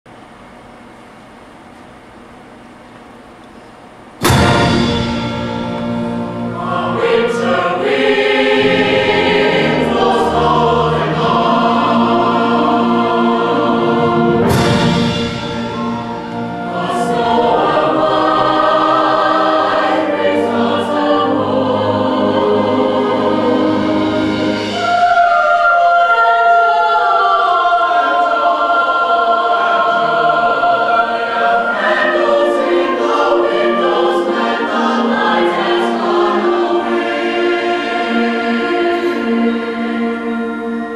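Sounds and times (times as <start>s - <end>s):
school band playing held chords: 4.2s - 40.9s.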